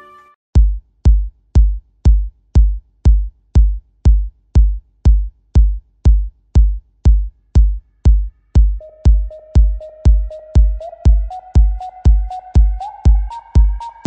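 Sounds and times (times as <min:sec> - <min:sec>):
drum machine kick drum: 0:00.6 - 0:14.0.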